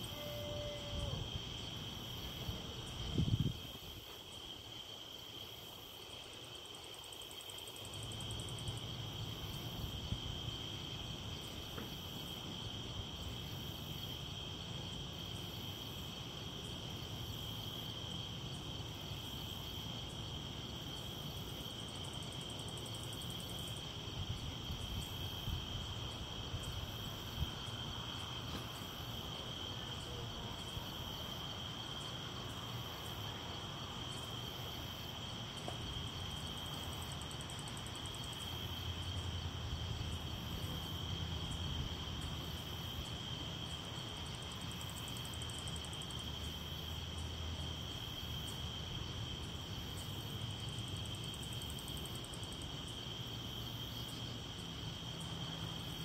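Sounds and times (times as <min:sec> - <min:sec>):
crickets chirring: 0:00.0 - 0:56.0
high-pitched pulsing insect call: 0:00.0 - 0:56.0.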